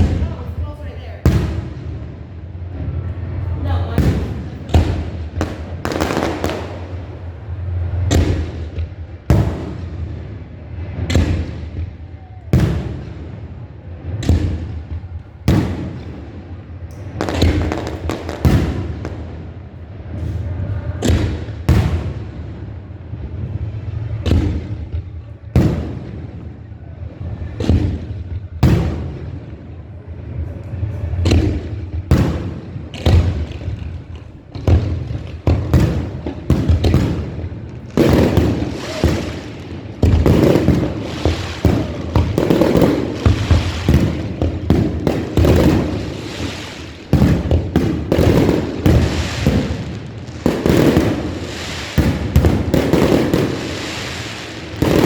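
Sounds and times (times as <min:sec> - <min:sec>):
fireworks booming: 0:00.0 - 0:55.0
fireworks crackling: 0:00.0 - 0:55.0.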